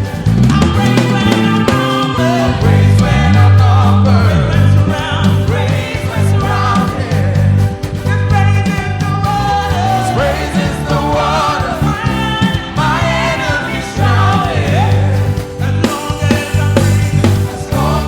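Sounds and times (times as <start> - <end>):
choir singing gospel: 0.0 - 18.0
full band with strong bass: 0.0 - 18.0.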